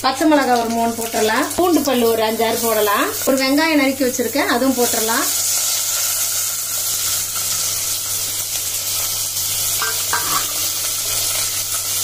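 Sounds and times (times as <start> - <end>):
onions sizzling in hot ghee: 0.0 - 12.0.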